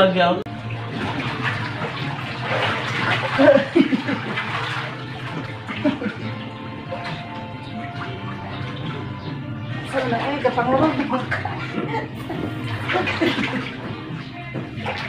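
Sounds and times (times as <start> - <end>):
water splashing in paddling pool: 0.5 - 15.0.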